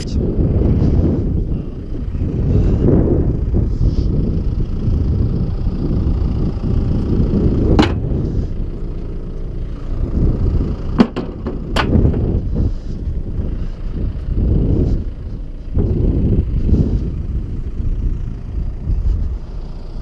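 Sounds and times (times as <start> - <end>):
tractor engine running: 0.0 - 20.0
wind buffeting microphone: 0.0 - 20.0.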